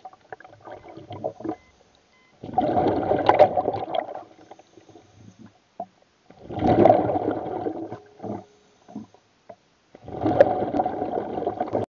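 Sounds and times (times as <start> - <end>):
underwater gurgling and rushing: 0.0 - 1.7, 2.4 - 9.2, 9.9 - 11.9
faint bubbling: 0.0 - 11.9.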